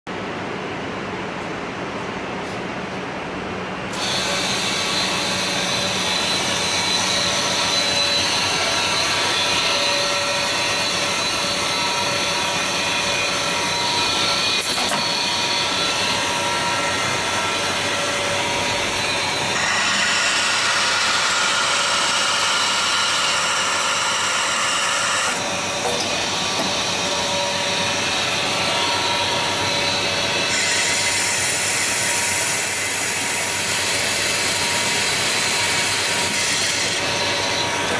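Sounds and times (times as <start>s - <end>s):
drilling machine whine: 3.9s - 37.9s.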